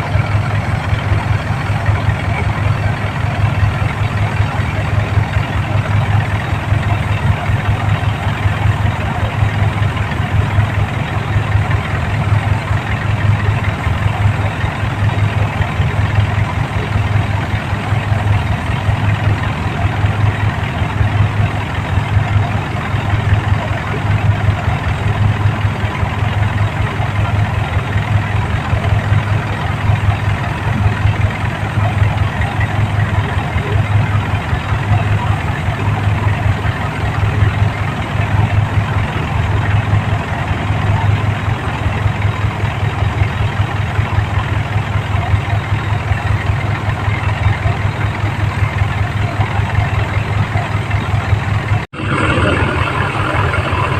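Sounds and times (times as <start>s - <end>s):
combine harvester engine throbbing: 0.0s - 53.9s.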